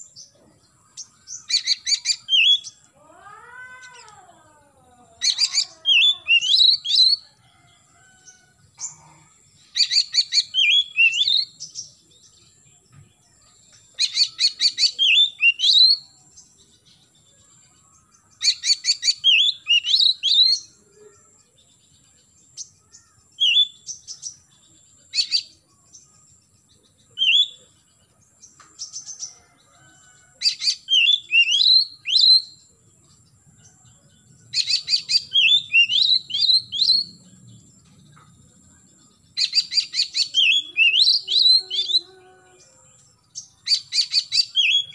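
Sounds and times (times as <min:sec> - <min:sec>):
bird singing: 0:00.0 - 0:44.9.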